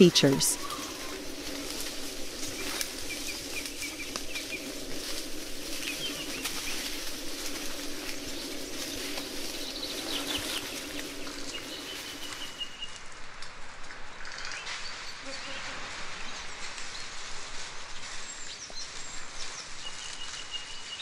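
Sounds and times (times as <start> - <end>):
rustles and clicks in branches: 0.0 - 21.0.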